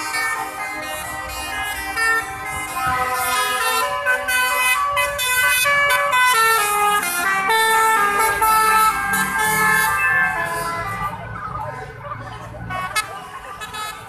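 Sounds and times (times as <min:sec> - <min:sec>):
musical vehicle horn tune: 0:00.0 - 0:11.2, 0:12.7 - 0:14.0.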